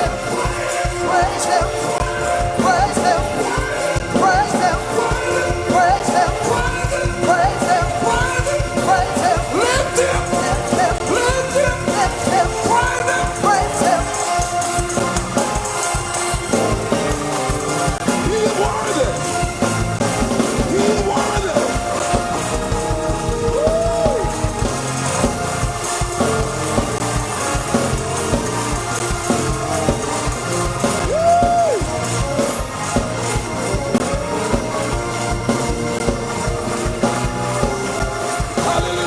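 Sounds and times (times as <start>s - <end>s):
live gospel band music: 0.0s - 39.0s
voices singing: 0.0s - 39.0s.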